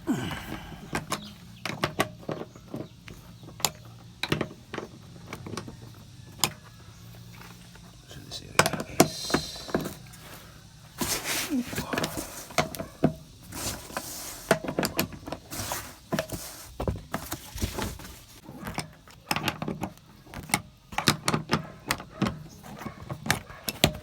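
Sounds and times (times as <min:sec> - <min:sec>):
hand tools clicking and knocking: 0:00.0 - 0:24.0.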